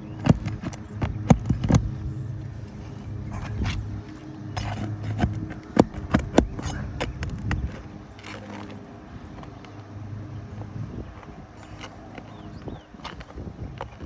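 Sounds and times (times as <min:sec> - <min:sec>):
knocks and clicks on roof shingles: 0:00.0 - 0:14.0
steady low hum: 0:00.0 - 0:14.0.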